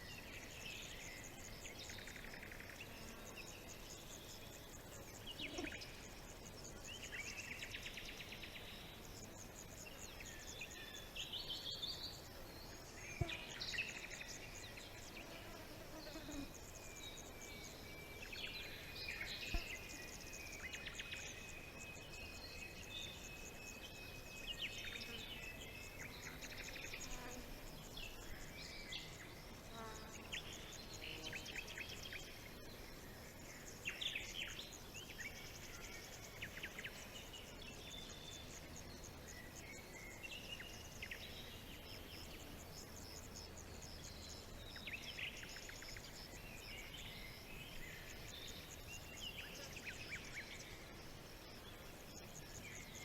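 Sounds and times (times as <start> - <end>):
forest birds singing and calling: 0.0 - 53.0.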